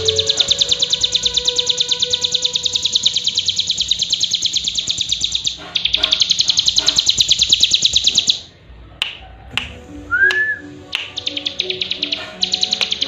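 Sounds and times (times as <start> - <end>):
songbird trilling: 0.0 - 8.5, 11.0 - 13.0.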